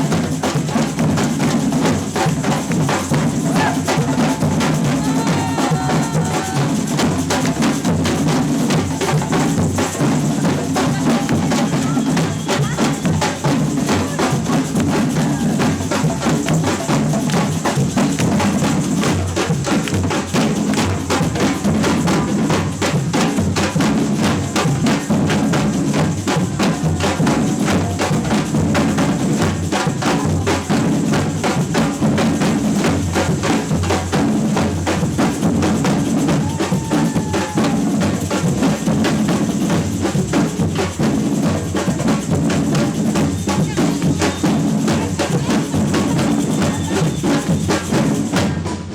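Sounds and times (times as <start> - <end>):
shakers: 0.0 - 48.6
fast smaller drum strokes: 0.0 - 48.9.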